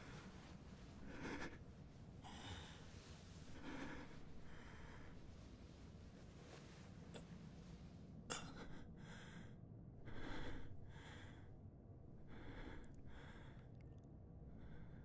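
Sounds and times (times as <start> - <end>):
soft breathing: 0.0 - 11.6, 12.2 - 15.0.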